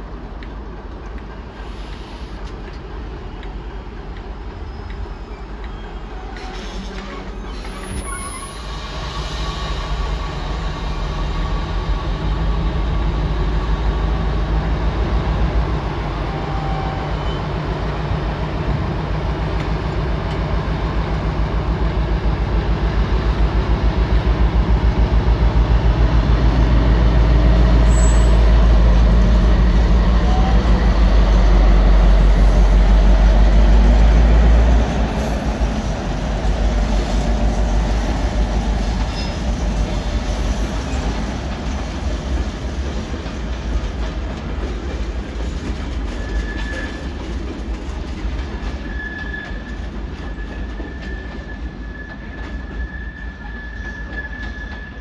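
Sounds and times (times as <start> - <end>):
diesel locomotive engine rumbling: 0.0 - 55.0.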